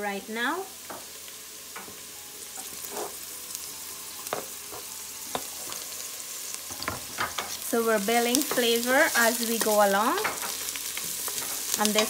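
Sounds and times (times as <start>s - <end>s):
onion sizzling in oil: 0.0s - 12.0s.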